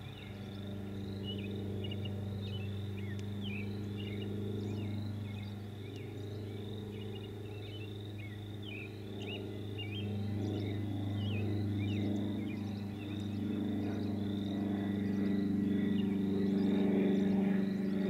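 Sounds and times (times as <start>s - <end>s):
low hum: 0.0s - 18.0s
small birds chirping: 0.0s - 18.0s.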